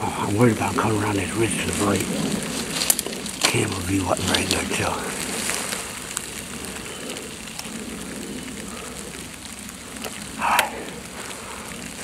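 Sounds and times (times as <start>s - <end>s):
steady woodland hiss: 0.0s - 12.0s
faint scattered ticks: 0.2s - 12.0s.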